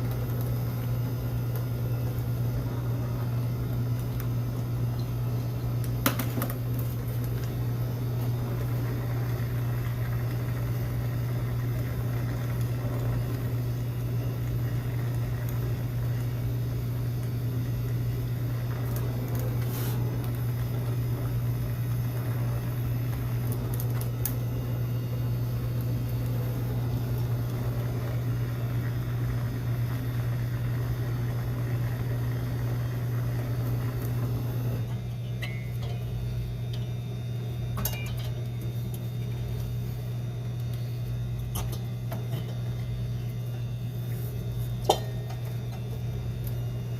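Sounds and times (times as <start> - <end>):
machine humming: 0.0 - 46.9.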